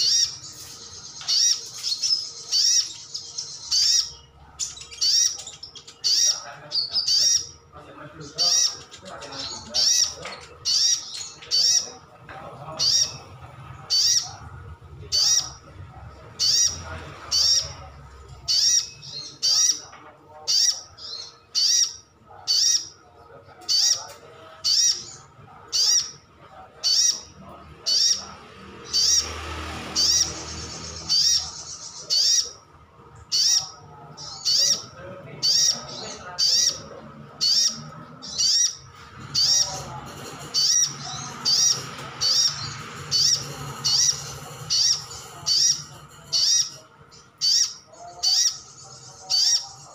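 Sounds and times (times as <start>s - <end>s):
sunbird calling: 0.0s - 12.0s, 12.7s - 15.6s, 16.4s - 19.9s, 20.5s - 23.0s, 23.7s - 26.2s, 26.8s - 49.9s.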